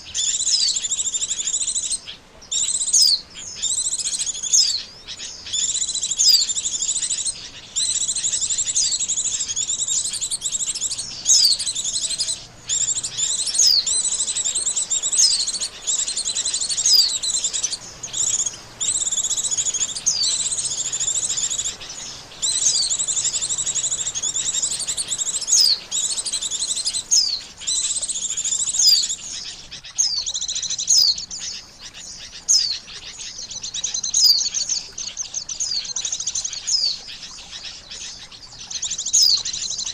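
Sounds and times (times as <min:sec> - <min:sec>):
bird twittering chirps: 0:00.0 - 0:39.9.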